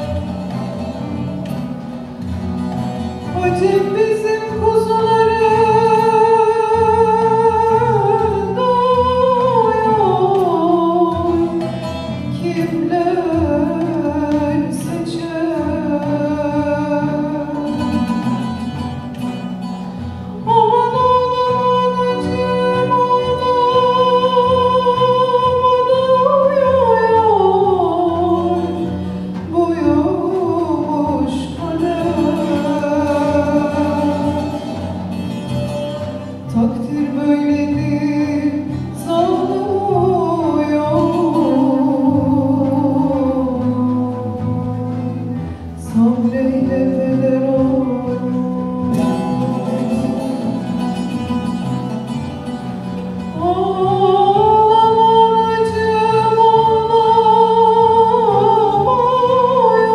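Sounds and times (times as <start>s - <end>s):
instrumental accompaniment: 0.0s - 59.9s
person singing a folk lament: 3.2s - 18.7s, 19.9s - 35.2s, 36.0s - 51.9s, 53.0s - 59.9s.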